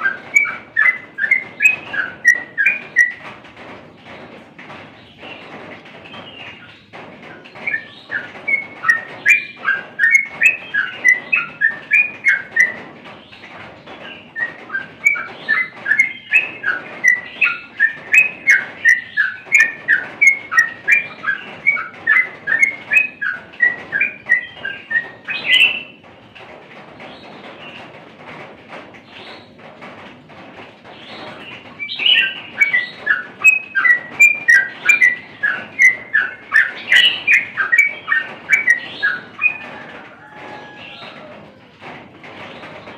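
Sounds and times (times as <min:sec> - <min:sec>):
bird chirping: 0:00.0 - 0:03.3, 0:05.0 - 0:26.0, 0:30.9 - 0:41.4.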